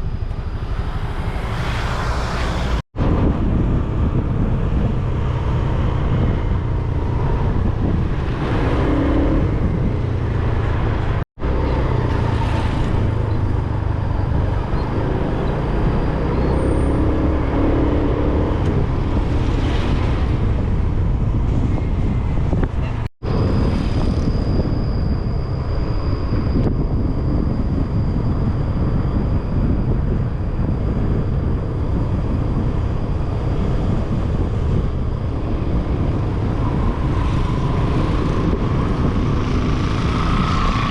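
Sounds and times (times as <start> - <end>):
scooter road noise: 0.0 - 40.9
surrounding traffic: 0.0 - 40.9
wind buffeting: 0.0 - 40.9.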